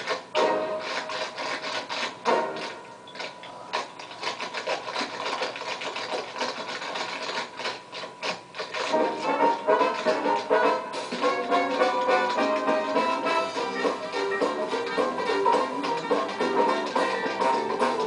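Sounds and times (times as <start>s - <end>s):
tap shoes on wooden stage: 0.0s - 18.0s.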